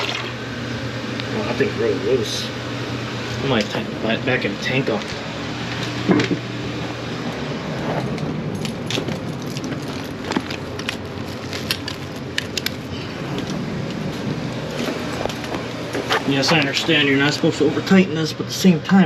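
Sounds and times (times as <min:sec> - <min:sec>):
background hiss and hum: 0:00.0 - 0:19.0.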